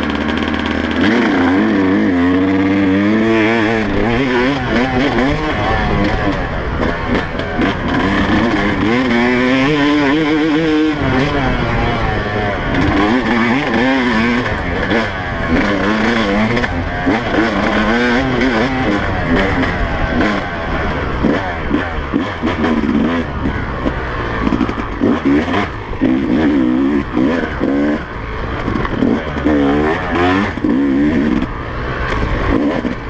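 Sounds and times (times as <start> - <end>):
two-stroke engine revving: 0.0 - 33.0.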